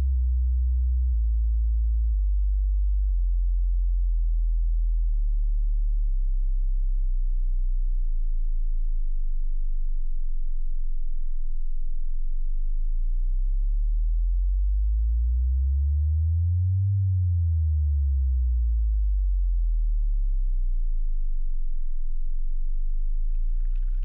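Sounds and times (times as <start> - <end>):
low electronic hum: 0.0 - 24.0.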